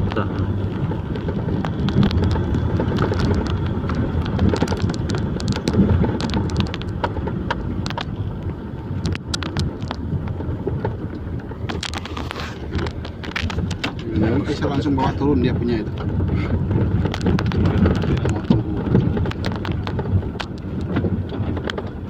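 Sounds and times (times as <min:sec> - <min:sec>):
sharp clicks and knocks: 0:00.0 - 0:22.0
truck engine rumbling: 0:00.0 - 0:22.0.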